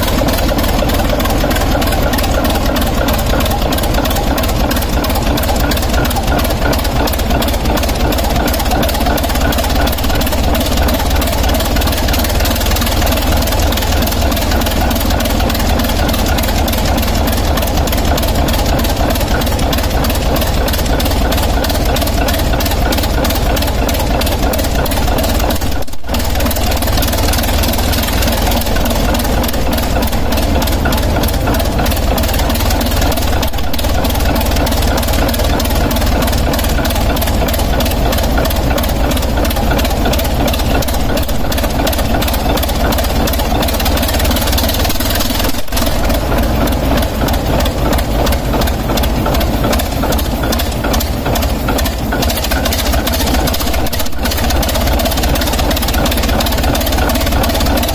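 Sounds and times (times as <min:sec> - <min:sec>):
diesel engine exhaust chuffing: 0:00.0 - 0:57.9.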